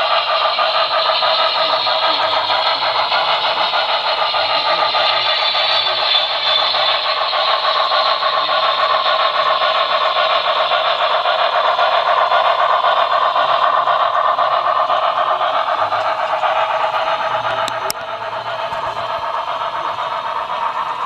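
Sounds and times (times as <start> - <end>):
model train wheels clattering: 0.0 - 21.0.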